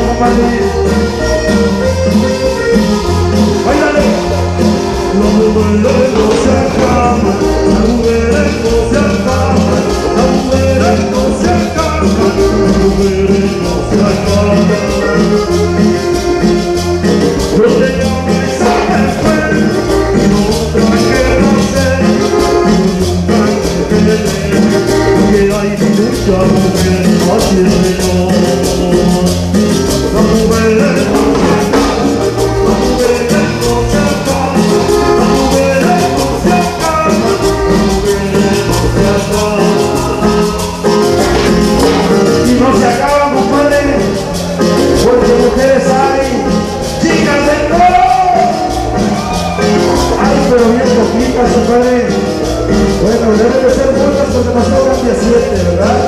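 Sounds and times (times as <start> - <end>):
live band playing cumbia: 0.0 - 56.0.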